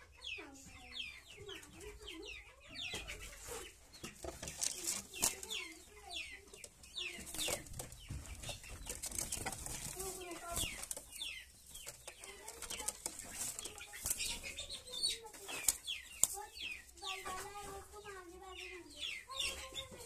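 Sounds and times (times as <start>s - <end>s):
young pigeons peeping: 0.0s - 20.0s.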